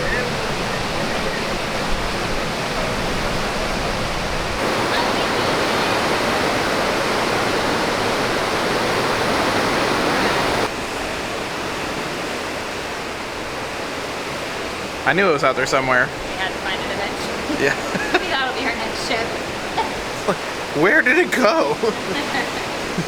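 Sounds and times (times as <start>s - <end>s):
rushing sea water: 0.0s - 23.0s
wind: 0.0s - 23.0s.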